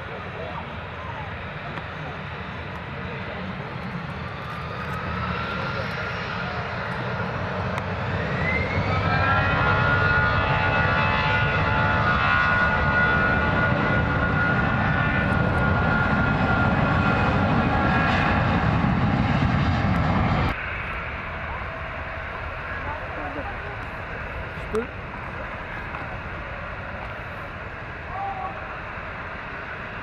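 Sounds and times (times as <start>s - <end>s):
airliner engines whining: 0.0s - 30.0s.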